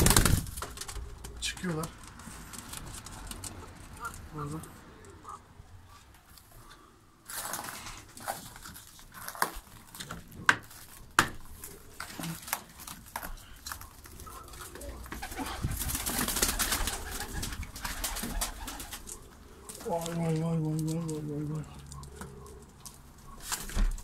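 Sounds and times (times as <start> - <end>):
pigeons cooing: 0.0 - 7.1, 11.4 - 24.0.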